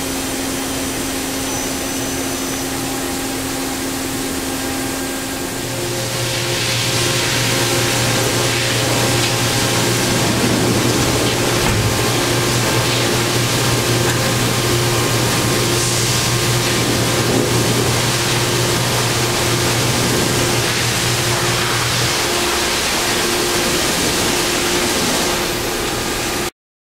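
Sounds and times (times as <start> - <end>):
machine hum: 0.0 - 26.5
loud rushing hiss: 0.1 - 26.4.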